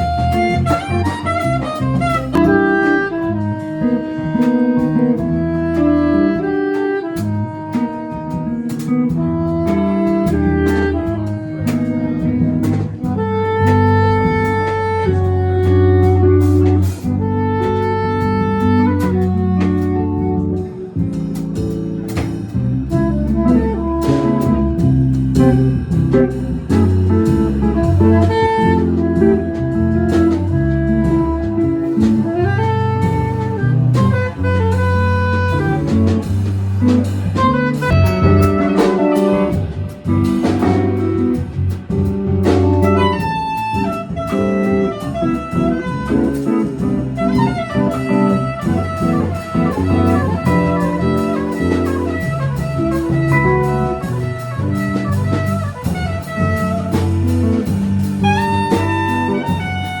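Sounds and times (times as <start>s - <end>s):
bass notes: 0.0s - 60.0s
drums keeping time on cymbals: 0.0s - 60.0s
horn melody: 0.0s - 60.0s
jazz quartet playing: 0.0s - 60.0s.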